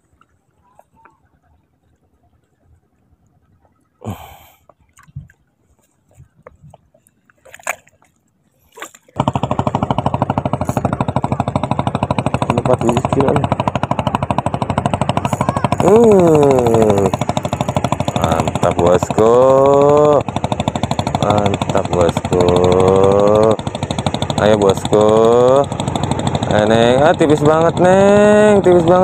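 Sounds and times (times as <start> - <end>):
small boat engine running: 0.0 - 29.0.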